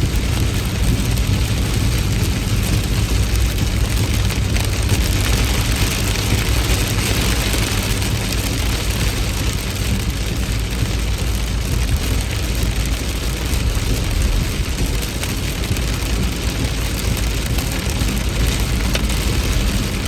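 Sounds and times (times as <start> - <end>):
heavy rain hissing: 0.0 - 20.0
low rumble: 0.0 - 20.0.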